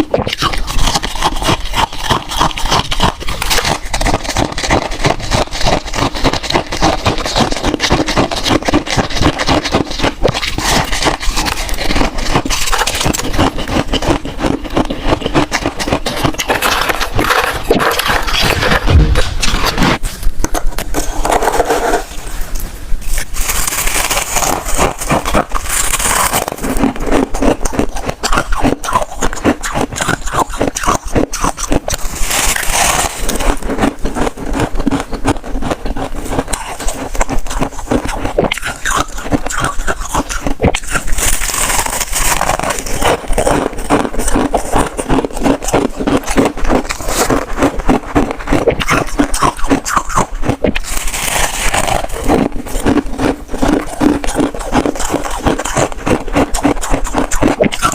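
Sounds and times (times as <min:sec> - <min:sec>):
chewing crunchy frost: 0:00.0 - 0:57.9.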